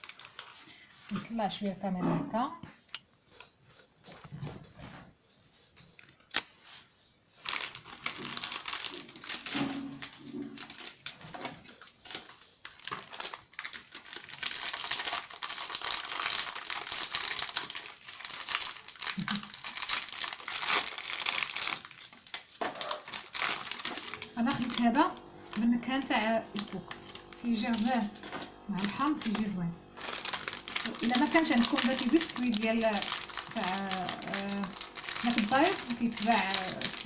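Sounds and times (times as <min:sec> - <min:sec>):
plastic wrappers crinkling: 0:00.0 - 0:01.7, 0:05.9 - 0:37.0.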